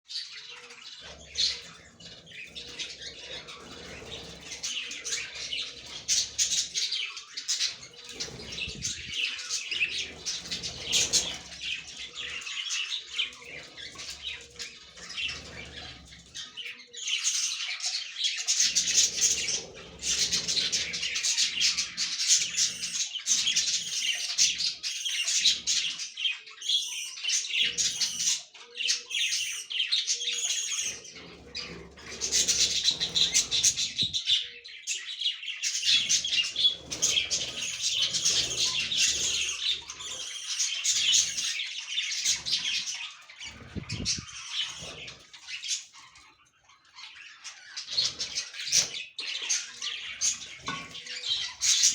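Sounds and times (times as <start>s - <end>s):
budgerigars chirping: 0.1s - 51.9s.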